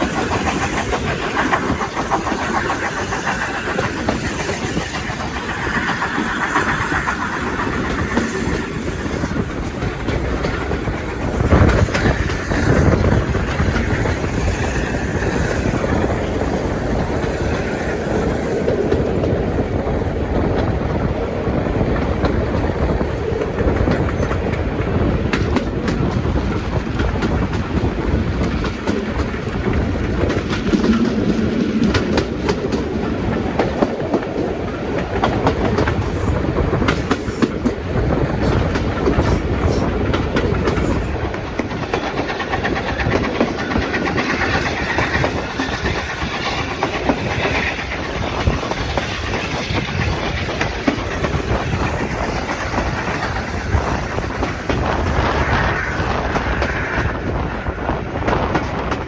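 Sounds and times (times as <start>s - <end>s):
train rumble and rush: 0.0s - 59.0s.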